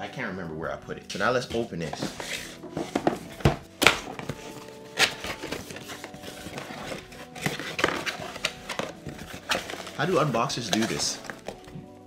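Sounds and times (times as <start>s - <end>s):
light rustling of cardboard: 1.5s - 11.9s.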